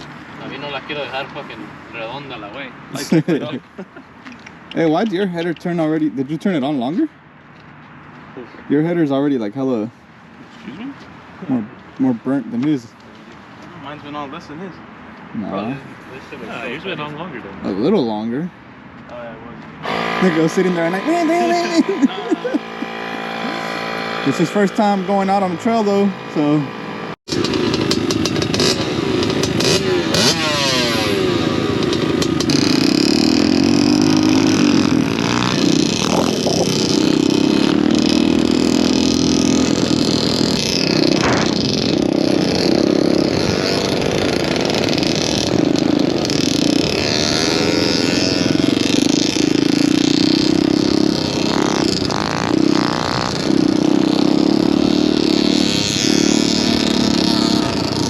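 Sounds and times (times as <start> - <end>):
pit bike engines revving: 0.0 - 58.0.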